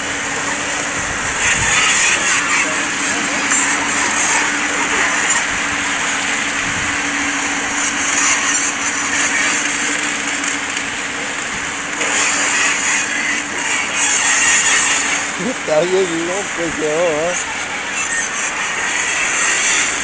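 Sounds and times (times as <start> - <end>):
excavator diesel engine running: 0.0 - 20.0
river rapids rushing: 0.0 - 20.0.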